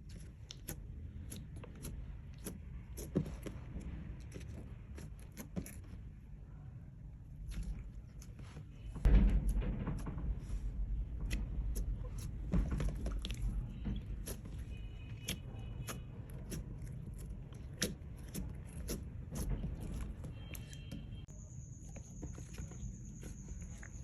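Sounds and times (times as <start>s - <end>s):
hands squishing slime: 0.0s - 9.3s, 9.9s - 21.3s.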